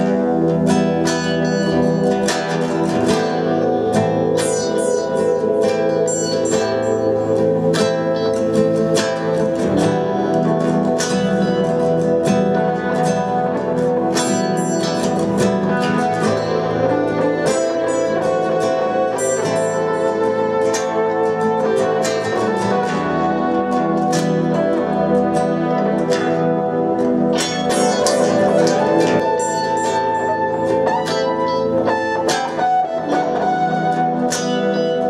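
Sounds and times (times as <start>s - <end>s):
bossa nova on acoustic guitars: 0.0s - 35.0s.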